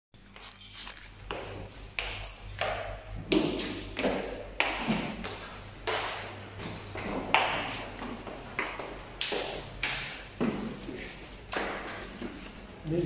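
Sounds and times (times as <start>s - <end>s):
footsteps on tiled floor: 0.2s - 13.0s.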